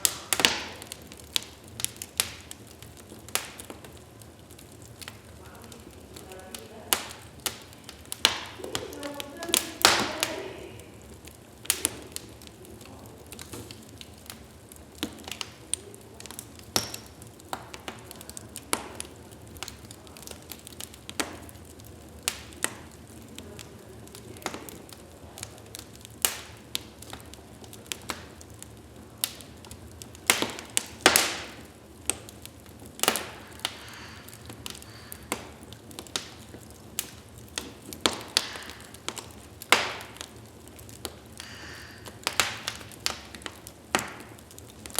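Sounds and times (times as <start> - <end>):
burning logs popping: 0.0 - 44.9
flames hissing: 0.0 - 44.9.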